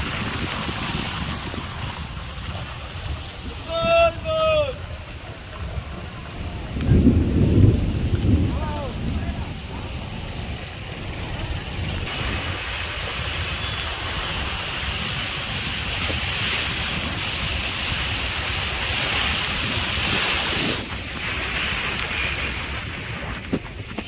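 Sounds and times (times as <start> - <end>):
heavy rain hissing: 0.0 - 23.8
wind buffeting microphone: 0.0 - 24.0.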